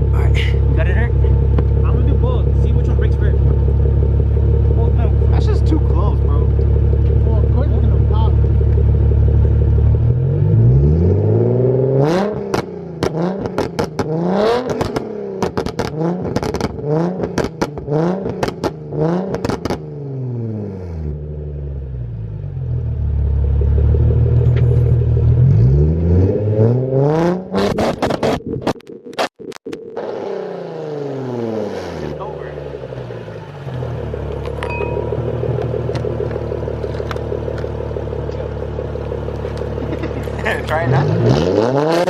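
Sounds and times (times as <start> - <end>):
exhaust popping and crackling: 0.0 - 10.8, 12.3 - 20.0, 23.1 - 42.0
car engine revving: 0.0 - 29.2, 29.8 - 42.0.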